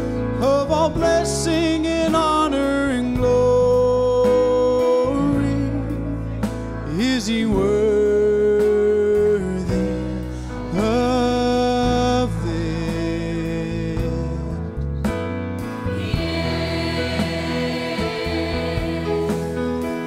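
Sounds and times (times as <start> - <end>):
church band worship music: 0.0 - 20.0.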